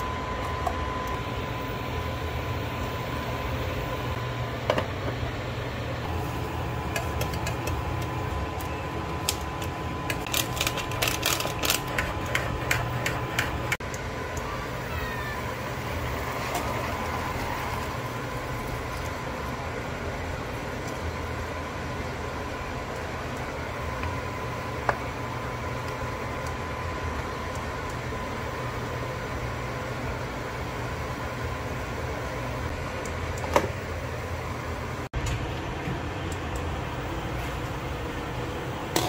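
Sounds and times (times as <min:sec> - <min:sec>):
cooktop humming with high whine: 0:00.0 - 0:39.0.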